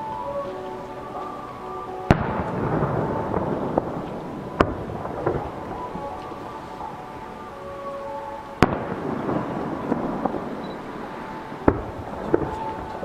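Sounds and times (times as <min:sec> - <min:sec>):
firework crackles: 0:00.0 - 0:13.0.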